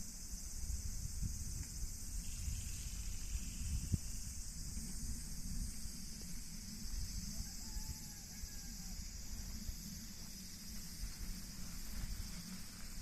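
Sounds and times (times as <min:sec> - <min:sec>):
continuous low rumble: 0:00.0 - 0:13.0
insects chirring: 0:00.0 - 0:13.0.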